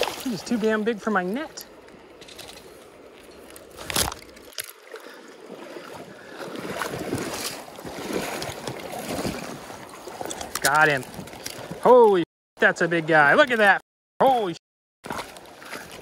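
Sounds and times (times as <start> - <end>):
water splashing around wading boots: 0.0 - 12.2, 15.0 - 16.0.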